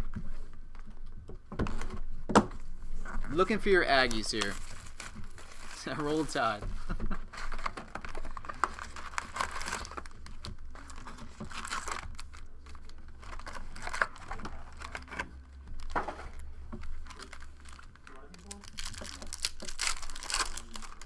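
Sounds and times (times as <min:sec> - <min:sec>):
wrappers crinkling and tearing: 0:03.3 - 0:21.0.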